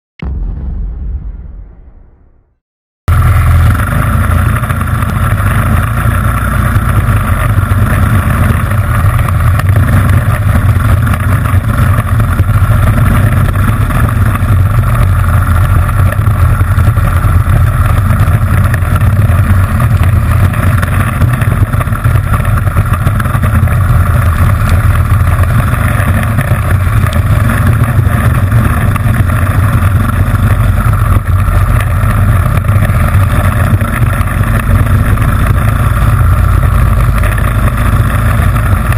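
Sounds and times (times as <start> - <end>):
kart engine running hard: 3.1 - 38.9.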